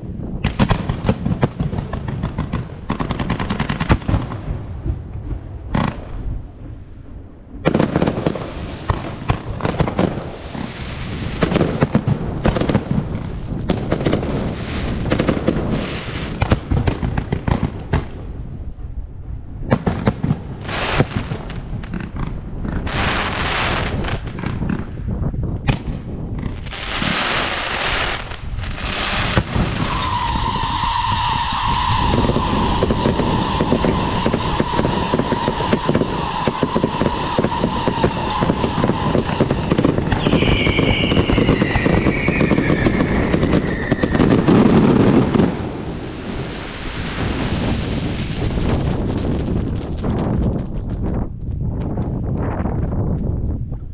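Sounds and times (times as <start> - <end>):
fireworks bangs and crackling: 0.2 - 18.9, 19.6 - 52.4.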